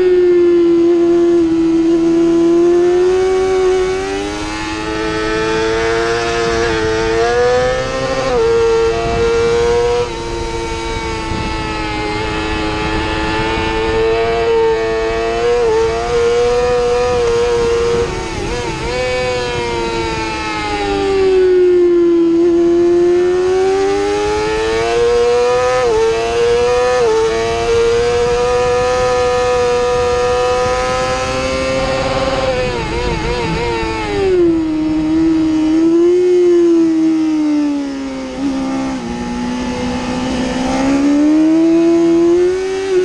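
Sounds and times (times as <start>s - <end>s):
motorcycle engine screaming: 0.0s - 43.0s.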